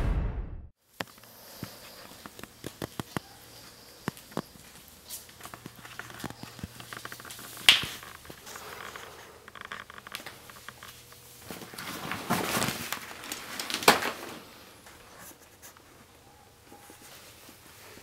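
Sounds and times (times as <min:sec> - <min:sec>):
rustling: 0:01.4 - 0:18.0.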